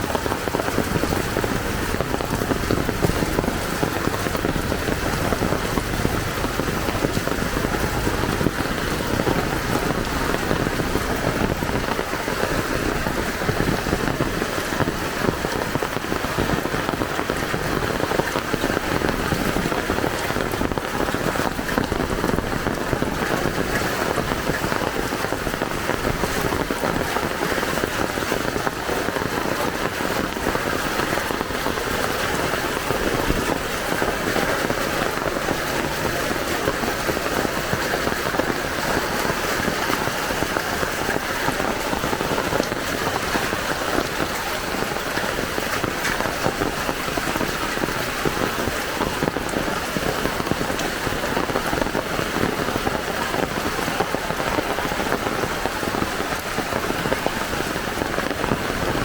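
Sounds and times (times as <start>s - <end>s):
heavy rain on hard surfaces: 0.0s - 59.0s.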